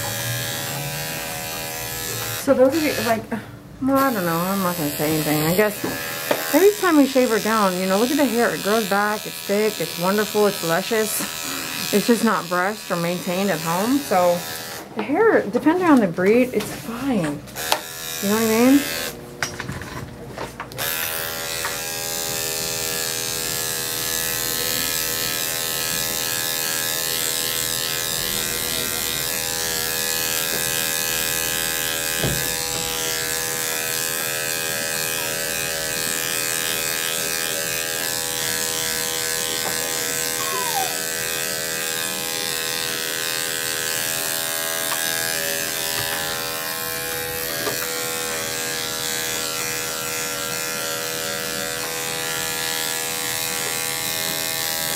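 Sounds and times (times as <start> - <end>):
electric dog clipper humming: 0.0 - 54.9.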